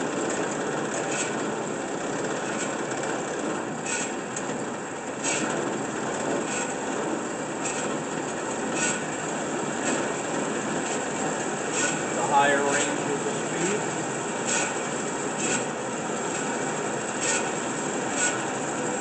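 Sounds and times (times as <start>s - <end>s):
band saw motor and blade: 0.0s - 19.0s.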